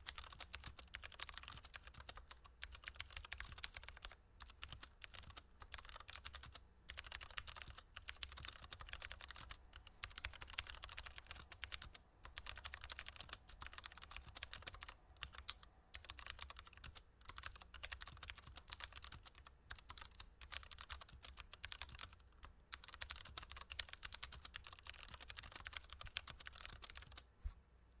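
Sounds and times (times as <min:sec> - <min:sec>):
typing on mechanical keyboard: 0:00.0 - 0:27.2.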